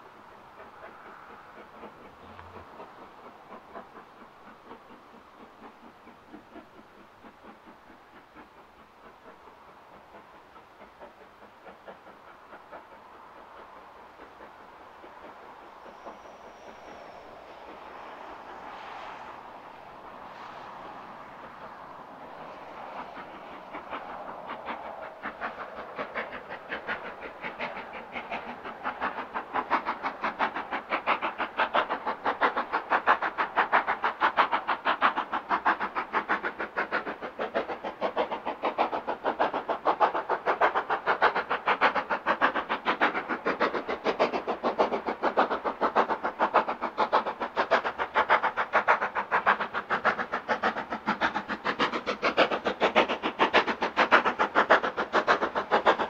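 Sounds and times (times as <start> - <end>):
steam locomotive exhaust beats: 0.0 - 56.0.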